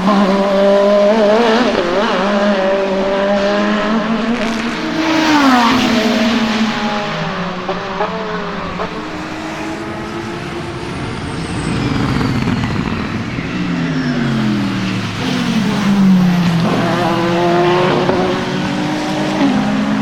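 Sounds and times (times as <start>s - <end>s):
racing engine at speed: 0.0s - 20.0s.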